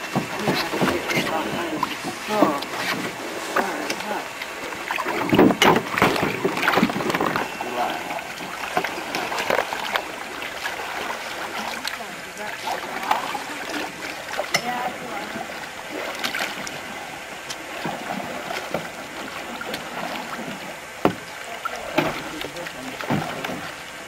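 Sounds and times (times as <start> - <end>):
canoe paddles splashing: 0.0 - 24.0
watery wash: 0.0 - 24.0.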